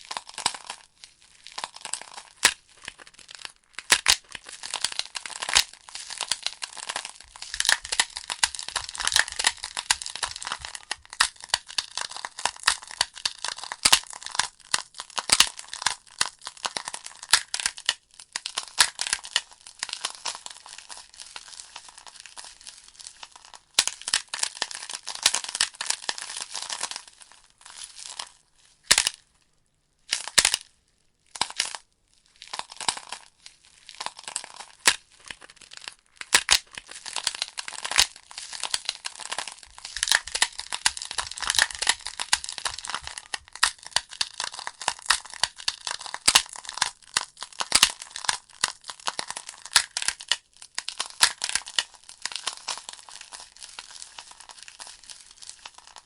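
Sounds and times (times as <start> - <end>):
burning logs crackling and popping: 1.5 - 26.8, 33.9 - 56.0.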